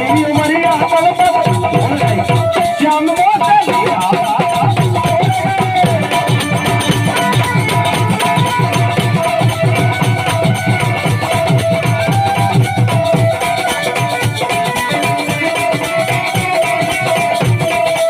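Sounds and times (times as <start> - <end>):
fast drumming: 0.0 - 18.0
melodic lead instrument: 0.0 - 18.0.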